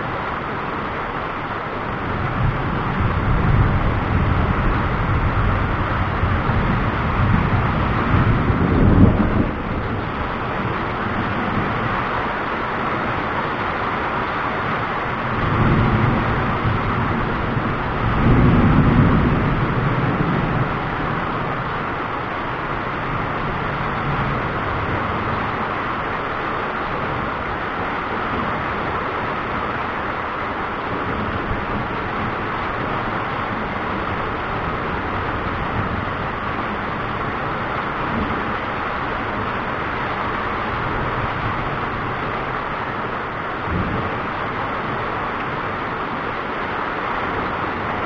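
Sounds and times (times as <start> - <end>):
thunder rumbling: 0.0 - 48.0.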